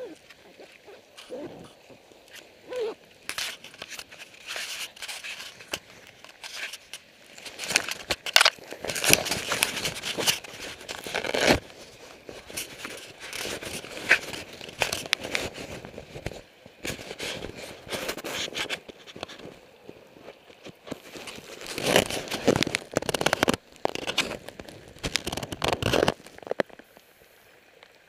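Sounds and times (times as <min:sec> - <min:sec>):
handheld camera rustling: 0:00.0 - 0:26.8.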